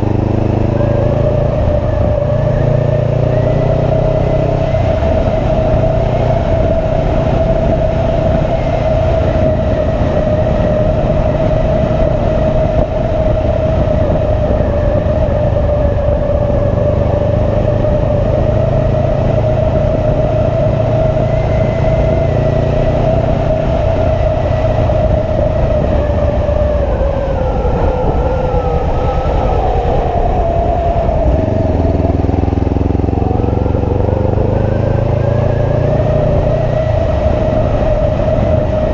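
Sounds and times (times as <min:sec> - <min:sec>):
constant rushing noise: 0:00.0 - 0:38.9
motorcycle engine cruising: 0:00.0 - 0:38.9.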